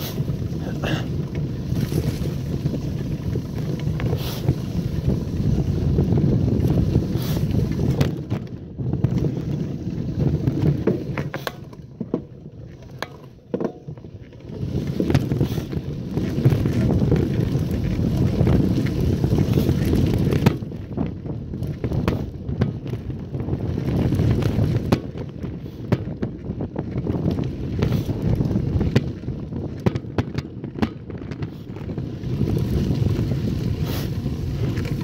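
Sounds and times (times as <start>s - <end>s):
bike clattering over bumps: 0.0s - 35.0s
bike tyres rumbling on dirt: 0.0s - 35.0s
wind buffeting microphone: 0.0s - 35.0s.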